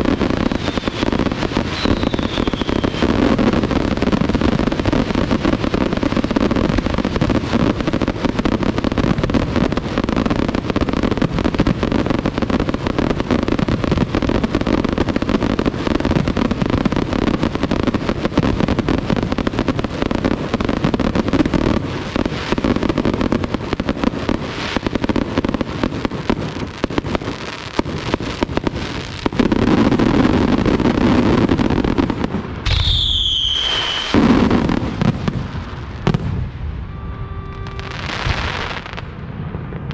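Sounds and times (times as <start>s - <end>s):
fireworks bangs and crackle: 0.0s - 39.9s
whistling firework: 0.0s - 39.9s.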